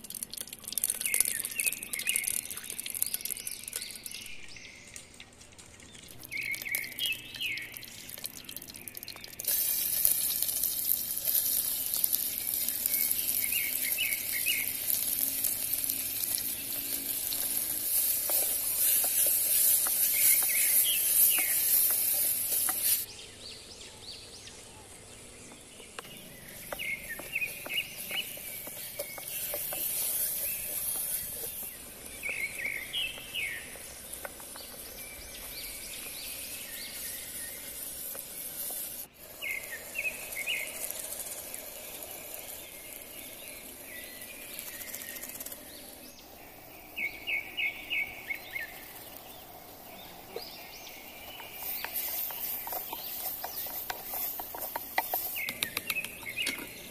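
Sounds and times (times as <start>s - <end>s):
birds chirping: 0.1s - 56.9s
onions sizzling in a pot: 6.3s - 23.1s, 26.4s - 45.5s, 46.8s - 56.9s.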